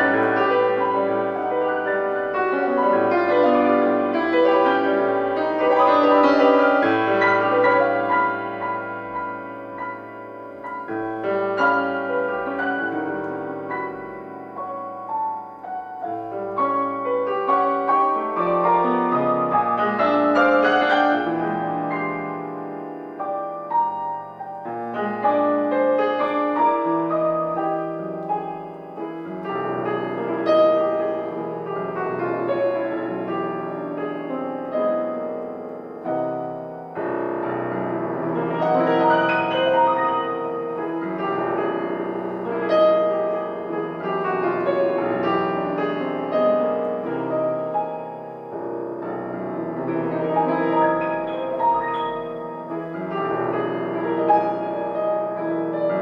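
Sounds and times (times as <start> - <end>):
classical piano music: 0.0 - 56.0.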